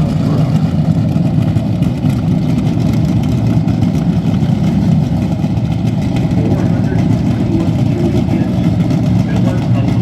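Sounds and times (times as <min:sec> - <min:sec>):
racing car engine idling: 0:00.0 - 0:10.0.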